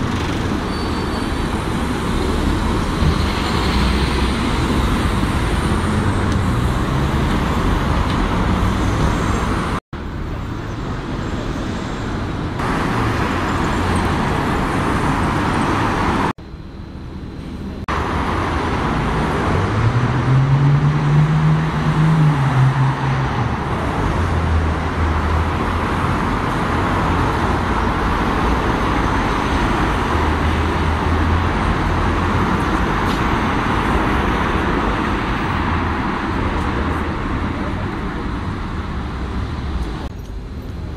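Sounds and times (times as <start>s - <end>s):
bus and car engines: 0.0s - 40.9s
tyres on road: 0.0s - 40.9s.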